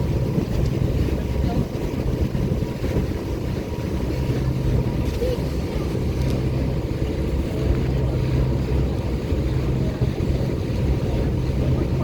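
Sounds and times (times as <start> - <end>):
boat engines droning: 0.0 - 12.0
wind noise on microphone: 0.0 - 12.0.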